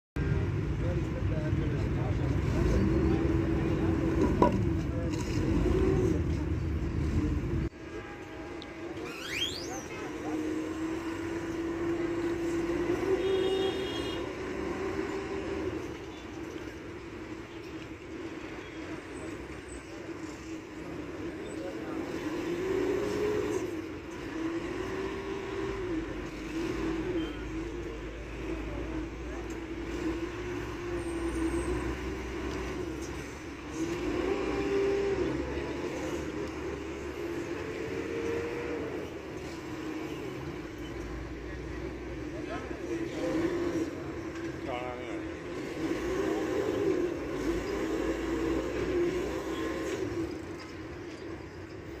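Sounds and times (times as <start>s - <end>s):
diesel engine revving: 0.2s - 7.7s, 9.4s - 16.1s, 20.4s - 51.0s.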